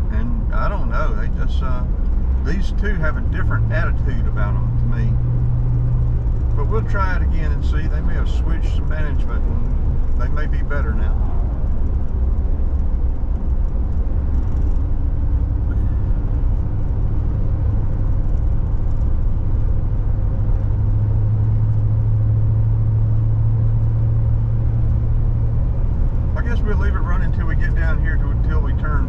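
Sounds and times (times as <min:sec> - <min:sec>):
car road and engine rumble: 0:00.0 - 0:29.0
low hum: 0:00.0 - 0:29.0.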